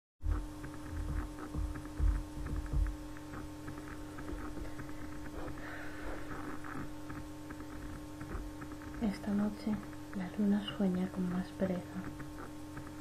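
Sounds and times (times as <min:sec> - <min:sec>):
electrical hum: 0:00.2 - 0:13.0.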